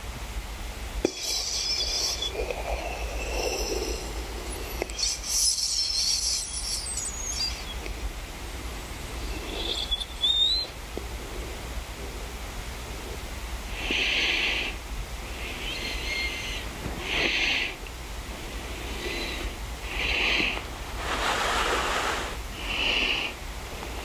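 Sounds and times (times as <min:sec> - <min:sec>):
low steady hum: 0:00.0 - 0:24.0
breathy hissing: 0:01.0 - 0:24.0.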